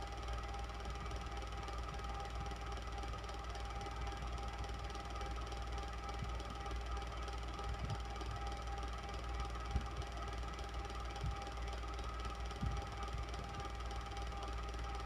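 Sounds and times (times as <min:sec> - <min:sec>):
electric fan motor hum: 0:00.0 - 0:15.0.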